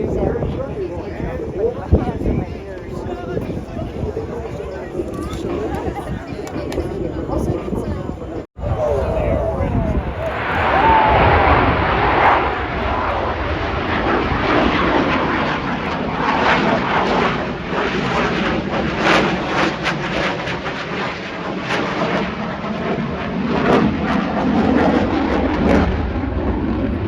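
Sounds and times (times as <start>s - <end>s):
airplane engine droning: 0.0s - 27.0s.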